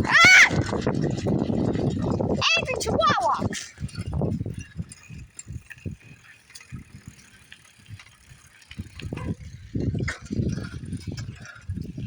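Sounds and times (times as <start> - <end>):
bicycle clicks and rattles: 0.0 - 12.0
wind buffeting microphone: 0.0 - 12.0.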